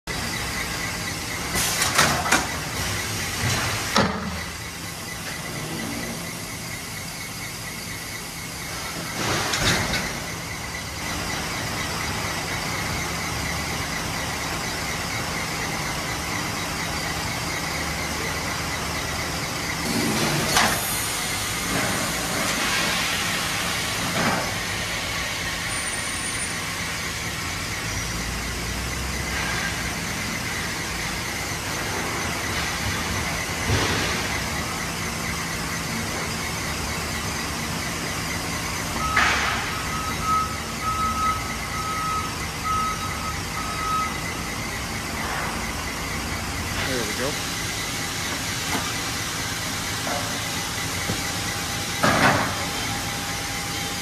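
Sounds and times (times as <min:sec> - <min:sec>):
constant high whine: 0:00.0 - 0:54.0.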